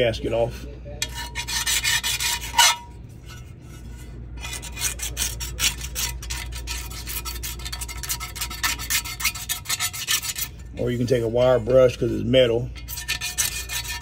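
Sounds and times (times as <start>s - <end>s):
razor blade scraping metal: 1.0s - 11.2s, 11.8s - 14.0s.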